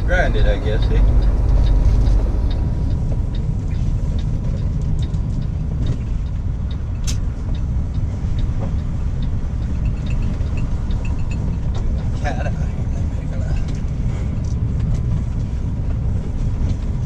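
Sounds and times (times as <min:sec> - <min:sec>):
truck diesel engine rumbling: 0:00.0 - 0:17.0.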